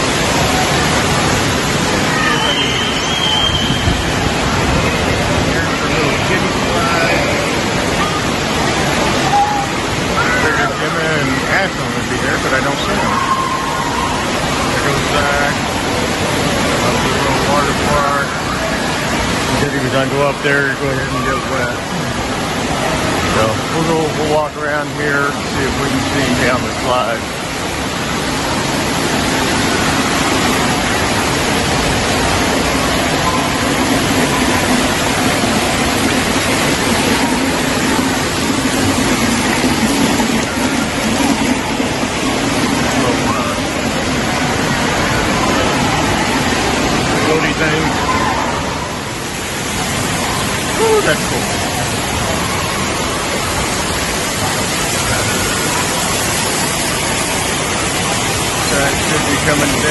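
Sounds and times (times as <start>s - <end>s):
water pouring and spraying: 0.0s - 59.9s.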